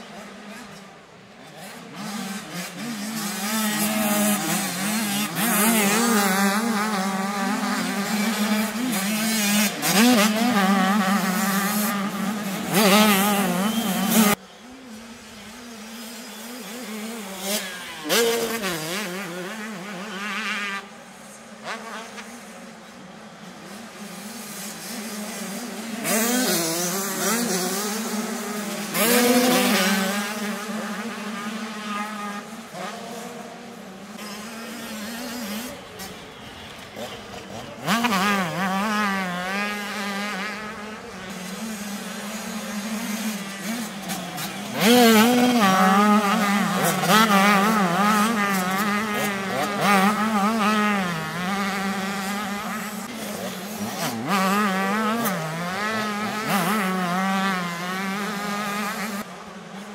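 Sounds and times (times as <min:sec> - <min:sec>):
motocross bikes revving: 0:00.0 - 0:59.9.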